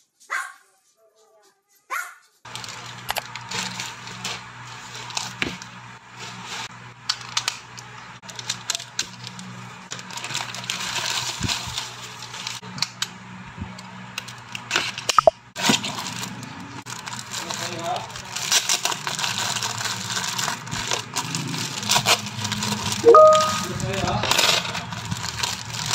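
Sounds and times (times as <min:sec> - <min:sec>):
plastic packaging rustling: 0:02.5 - 0:12.6, 0:14.2 - 0:25.9.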